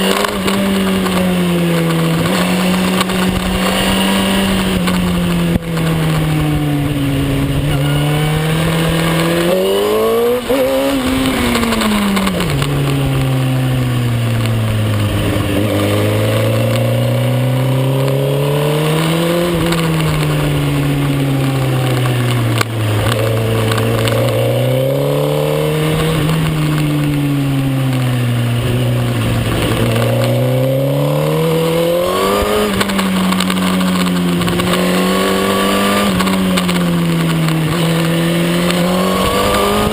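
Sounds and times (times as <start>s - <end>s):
motorcycle engine racing: 0.0s - 39.9s.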